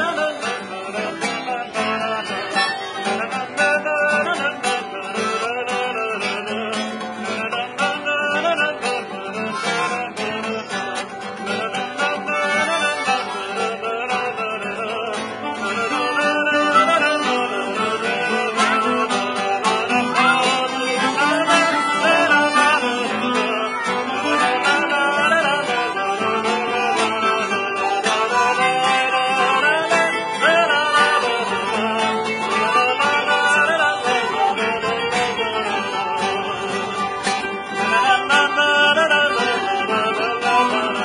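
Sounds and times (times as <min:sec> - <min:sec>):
acoustic guitars playing: 0:00.0 - 0:41.0
harmonica with bending notes: 0:00.0 - 0:41.0.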